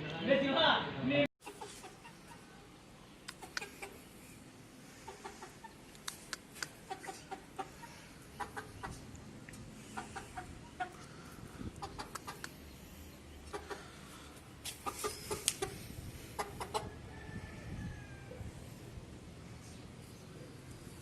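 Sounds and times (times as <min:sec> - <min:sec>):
chickens clucking: 0:01.4 - 0:18.5.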